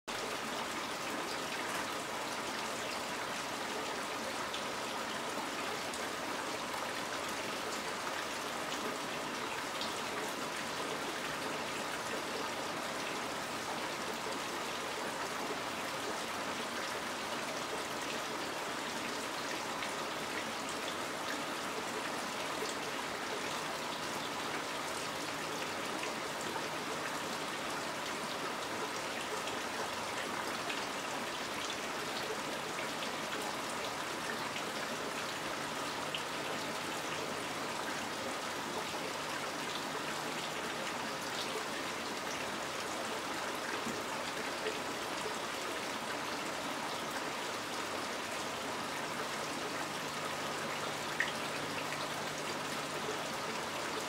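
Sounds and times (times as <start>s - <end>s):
water trickle: 0.1s - 54.0s.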